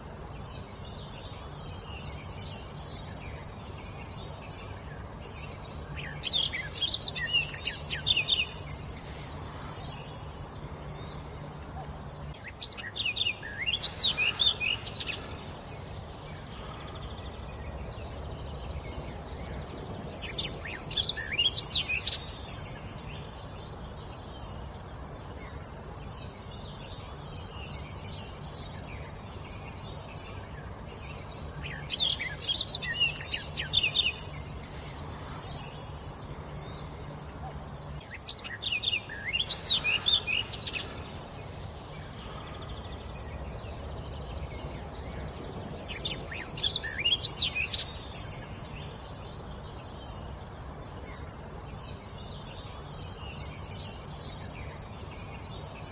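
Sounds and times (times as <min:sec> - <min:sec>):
low background hiss: 0:00.0 - 0:55.9
songbird singing: 0:00.0 - 0:55.9.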